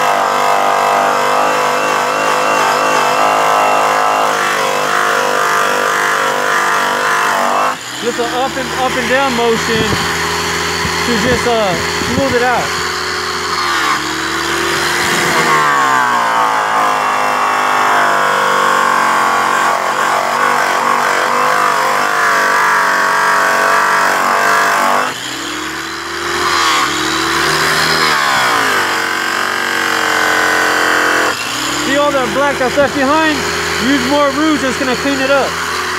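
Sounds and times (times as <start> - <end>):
electric polisher motor running: 0.0 - 35.9.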